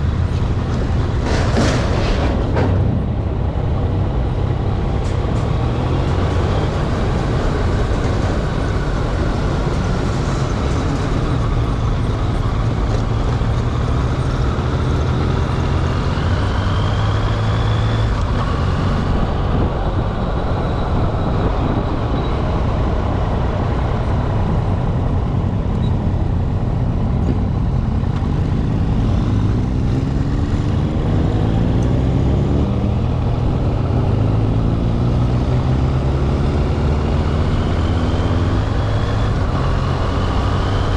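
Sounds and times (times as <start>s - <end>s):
rumble of large vehicles: 0.0s - 40.9s.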